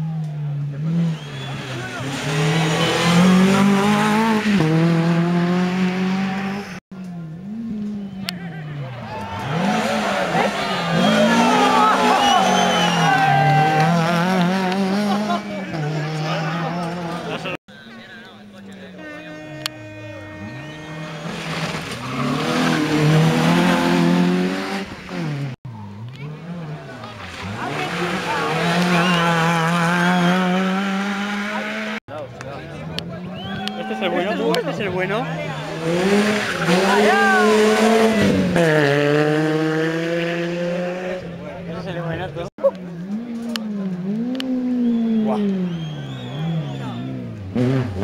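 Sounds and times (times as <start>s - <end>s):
car engine accelerating hard: 0.1s - 17.6s, 20.3s - 32.0s, 34.5s - 48.0s.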